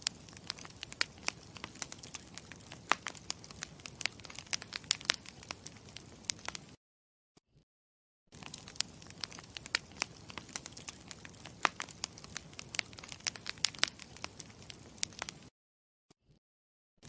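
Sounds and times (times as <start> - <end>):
campfire crackling: 0.0 - 6.8, 8.4 - 15.5.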